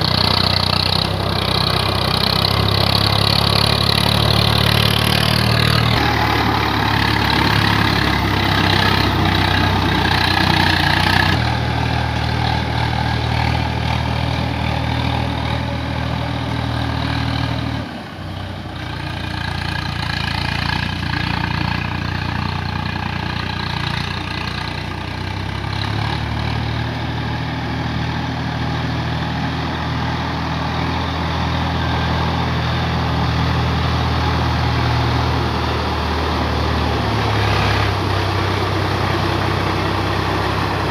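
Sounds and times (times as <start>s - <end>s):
rotavator tilling soil: 0.0s - 40.9s
tractor diesel engine running: 0.0s - 40.9s.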